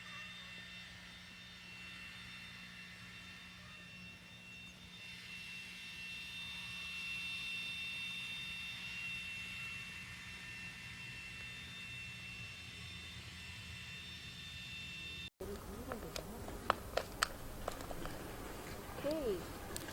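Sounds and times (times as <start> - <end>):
distant engine whining: 0.0 - 19.9.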